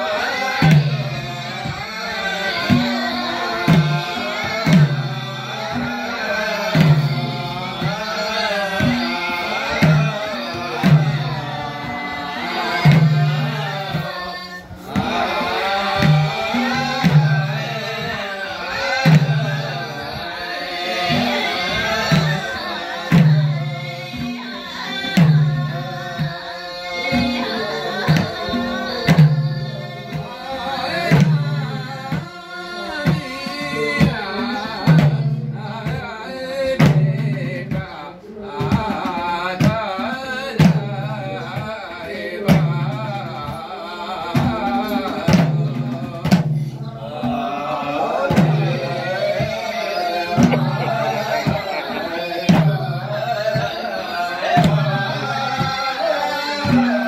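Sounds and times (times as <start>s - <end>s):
group singing: 0.0s - 57.0s
hand drums beating: 0.0s - 57.0s.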